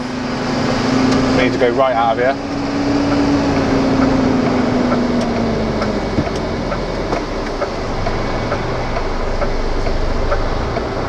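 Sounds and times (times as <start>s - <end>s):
diesel truck engine idling: 0.0s - 11.0s
faint regular ticking: 1.1s - 11.0s.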